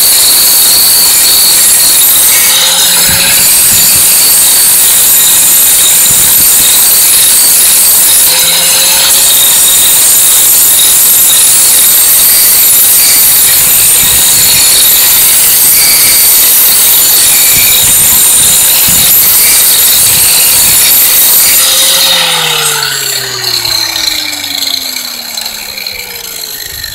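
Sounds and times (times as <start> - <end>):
angle grinder grinding steel: 0.0 - 26.9
grinder disc spinning down: 0.0 - 26.9.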